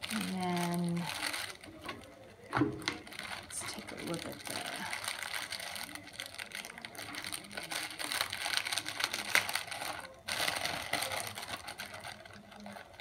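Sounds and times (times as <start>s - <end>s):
tiny beads rattling in bag: 0.0s - 1.7s, 3.0s - 13.0s
plastic bags crinkling: 0.0s - 13.0s.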